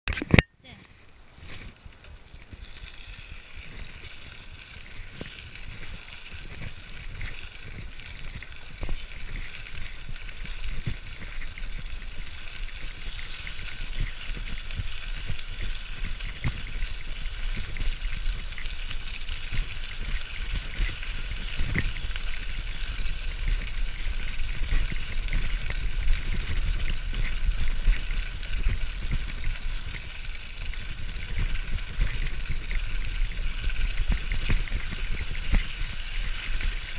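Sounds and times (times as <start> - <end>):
wind and tyre rumble: 1.2 - 36.9
tyres hissing on gravel: 1.3 - 36.9.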